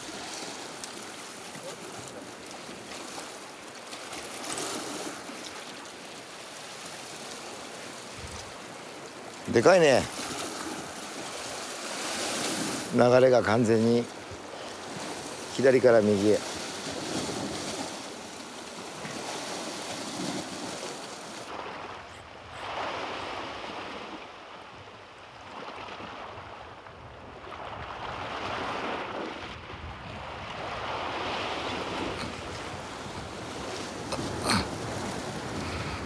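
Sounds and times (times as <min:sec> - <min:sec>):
sea waves washing against rocks: 0:00.0 - 0:24.4, 0:27.6 - 0:36.0.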